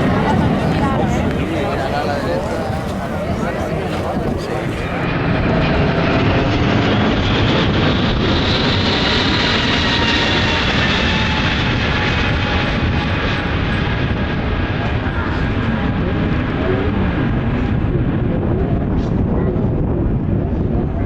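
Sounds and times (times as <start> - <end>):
jet airliner passing: 0.0 - 21.0
jet engine whine: 0.0 - 21.0.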